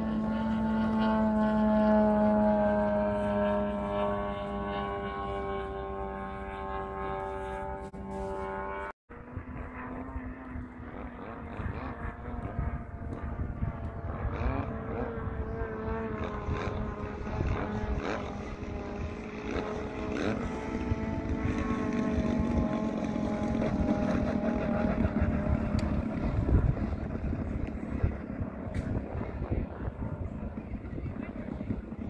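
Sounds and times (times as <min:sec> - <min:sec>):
model plane engine and propeller: 0:00.0 - 0:32.0
wind rumbling on microphone: 0:00.0 - 0:32.0.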